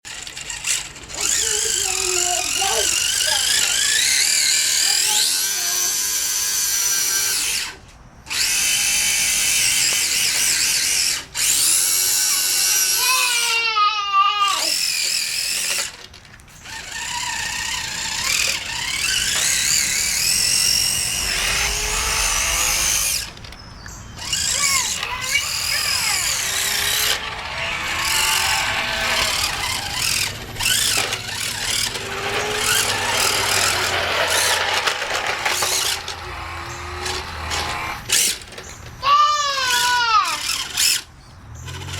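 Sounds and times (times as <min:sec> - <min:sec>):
toy car electric motor whining: 0:00.0 - 0:41.9.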